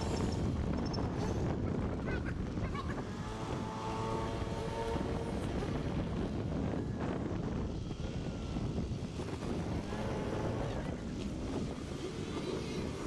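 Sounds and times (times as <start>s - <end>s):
small vehicle engine running: 0.0s - 13.0s
wind buffeting microphone: 0.0s - 13.0s.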